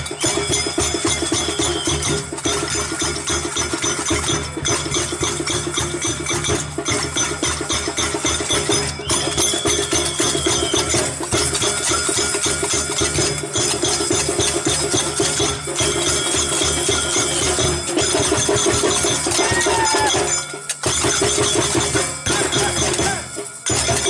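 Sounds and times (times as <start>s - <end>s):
loud rhythmic music: 0.0s - 24.0s.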